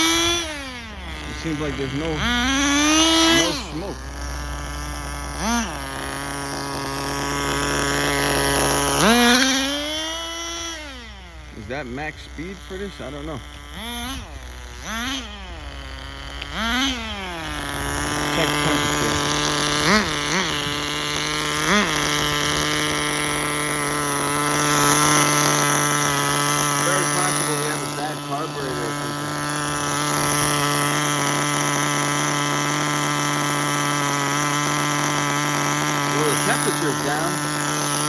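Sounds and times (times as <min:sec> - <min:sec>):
nitro model car engine revving: 0:00.0 - 0:38.0.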